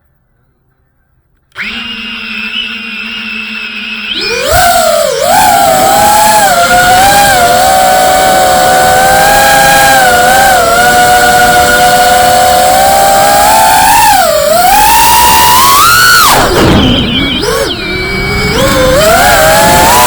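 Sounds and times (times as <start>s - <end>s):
quadcopter motors whining: 1.5s - 20.0s.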